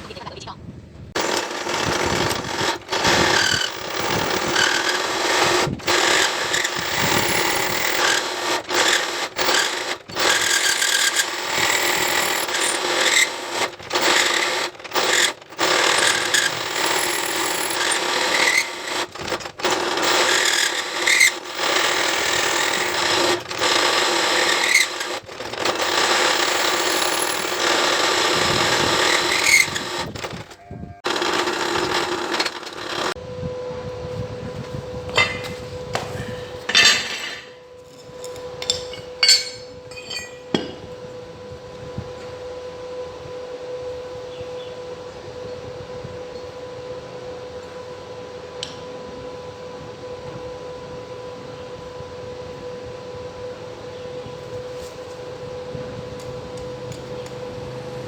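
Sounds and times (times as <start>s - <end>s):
power tool working metal: 1.2s - 33.2s, 34.1s - 44.7s, 53.4s - 58.0s.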